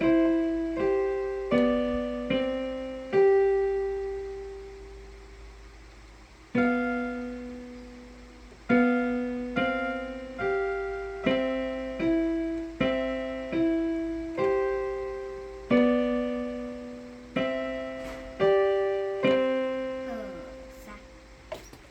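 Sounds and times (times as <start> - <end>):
piano played slowly: 0.0 - 21.5.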